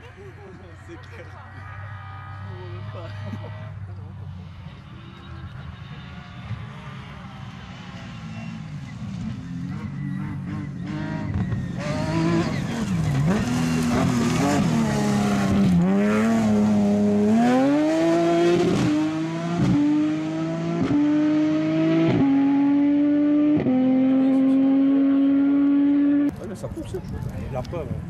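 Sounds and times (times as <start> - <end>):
engine accelerating with upshifts: 1.5 - 26.4.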